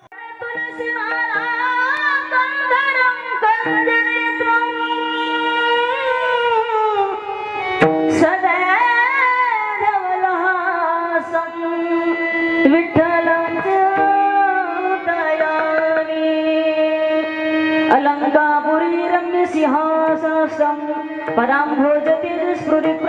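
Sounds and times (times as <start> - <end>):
person singing devotional song: 0.0 - 23.0.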